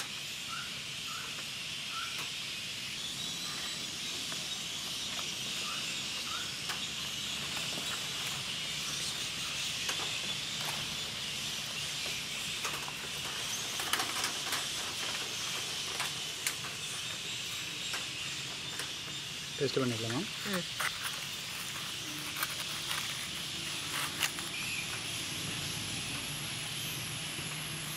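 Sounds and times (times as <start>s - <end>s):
high-pitched insect drone: 0.0s - 27.9s.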